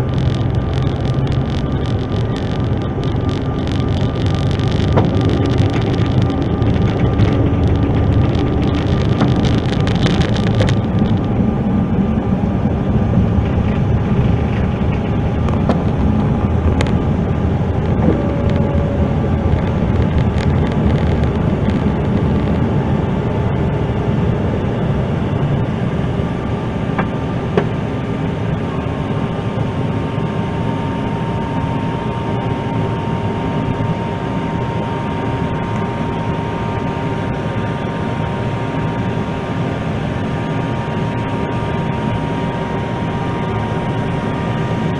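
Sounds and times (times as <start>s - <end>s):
jet cabin engine noise: 0.0s - 44.9s
thin steady whine: 0.0s - 44.9s.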